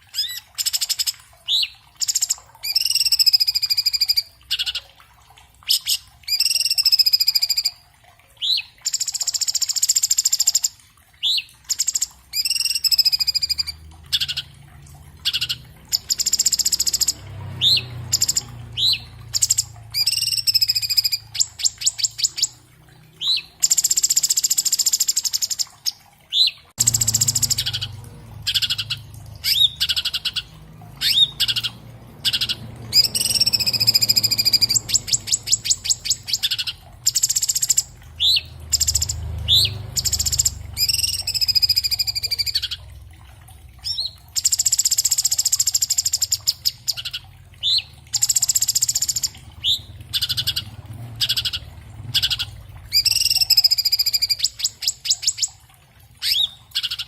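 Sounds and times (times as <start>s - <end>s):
bird singing whistles and trills: 0.1s - 4.8s, 5.7s - 7.8s, 8.4s - 14.5s, 15.2s - 22.6s, 23.2s - 42.8s, 43.8s - 55.6s, 56.2s - 57.0s.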